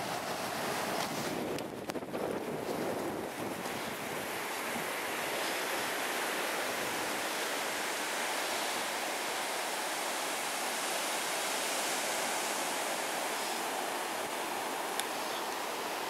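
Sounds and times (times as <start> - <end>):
ocean surf washing up beach: 0.0 - 16.0.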